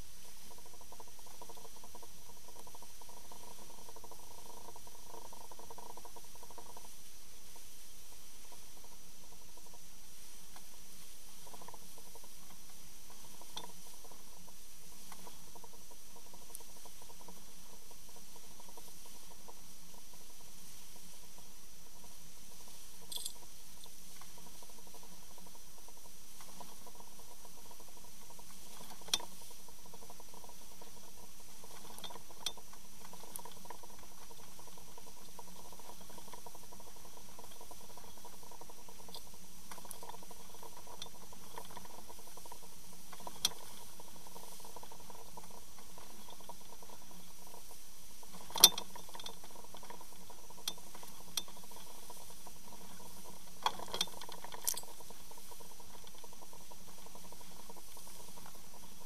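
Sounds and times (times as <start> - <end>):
faint hum: 0.0 - 59.0.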